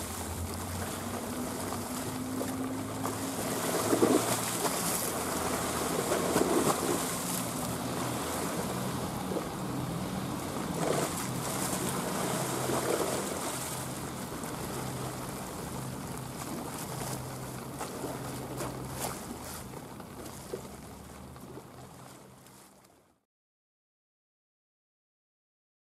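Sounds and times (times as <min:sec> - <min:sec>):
wake splashing against slipway: 0:00.0 - 0:22.9
boat engine drone: 0:00.0 - 0:23.2.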